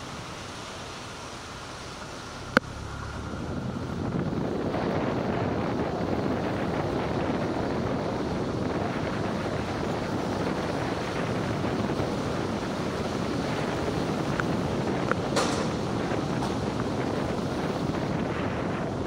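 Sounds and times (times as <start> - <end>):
tyre hiss on wet road: 0.0 - 19.0
wind rushing over microphone: 0.0 - 19.0.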